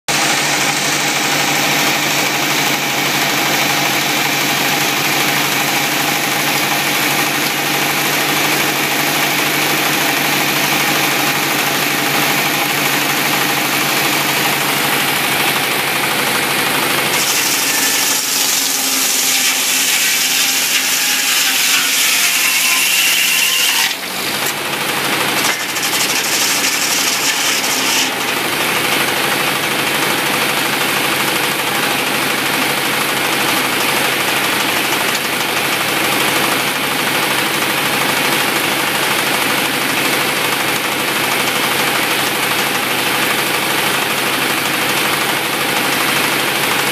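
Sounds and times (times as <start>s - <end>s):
sawmill engine running: 0.1s - 46.9s.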